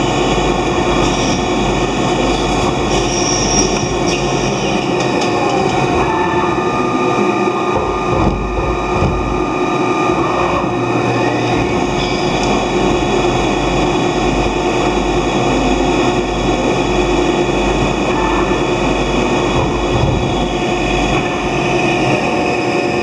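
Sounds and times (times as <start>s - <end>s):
lathe motor whine: 0.0s - 23.0s.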